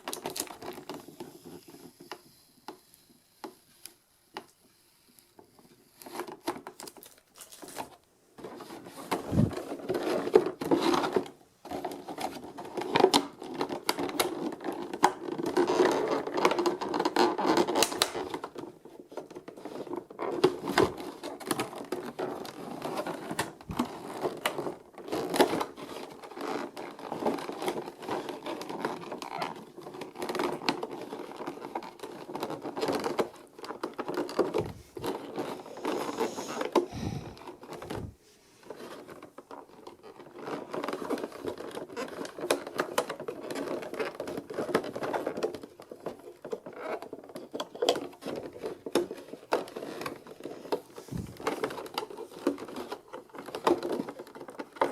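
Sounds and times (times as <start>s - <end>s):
packaging rustling and scraping: 0.0s - 54.9s.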